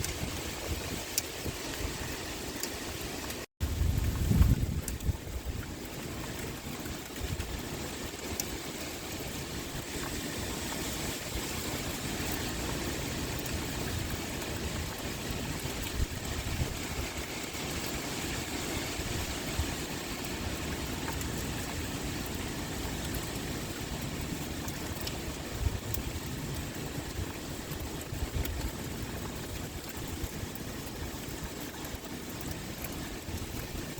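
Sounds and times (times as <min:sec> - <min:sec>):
pouring rain: 0:00.0 - 0:33.9
wind: 0:00.0 - 0:33.9.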